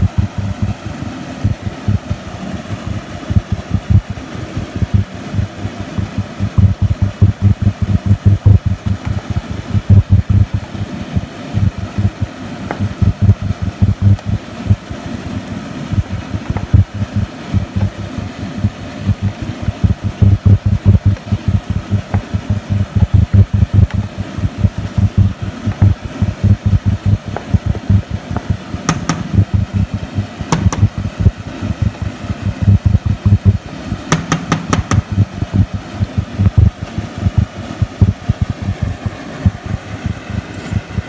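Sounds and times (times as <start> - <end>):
sharp clicks: 0.0 - 10.6, 11.2 - 14.8, 15.9 - 40.8
sauce bubbling in a pan: 0.1 - 41.0.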